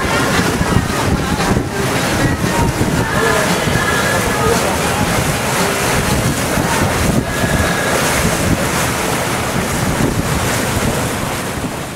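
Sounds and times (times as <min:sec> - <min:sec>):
sea water rushing along hull: 0:00.0 - 0:11.9
wind buffeting microphone: 0:00.0 - 0:11.9.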